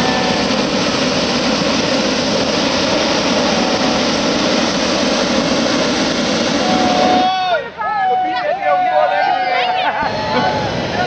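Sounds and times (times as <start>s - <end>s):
propane burner blast: 0.0s - 7.6s, 8.5s - 11.0s.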